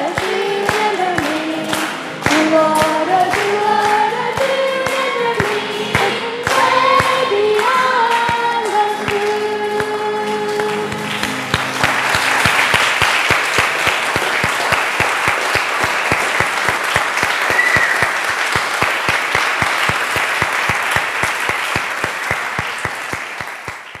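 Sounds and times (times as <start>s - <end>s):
audience applauding: 0.0s - 24.0s
close single person clapping: 0.0s - 24.0s.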